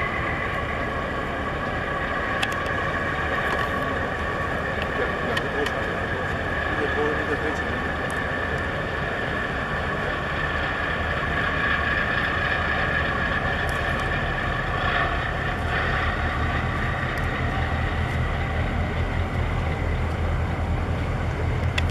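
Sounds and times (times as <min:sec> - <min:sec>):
ship engines droning: 0:00.0 - 0:21.9
steady high whine: 0:00.0 - 0:21.9.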